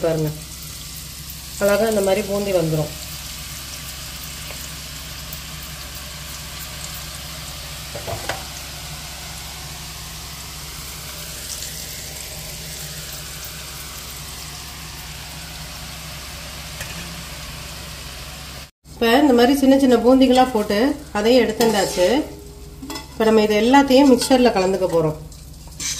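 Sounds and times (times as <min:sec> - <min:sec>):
batter sizzling in hot oil: 0:00.0 - 0:25.9.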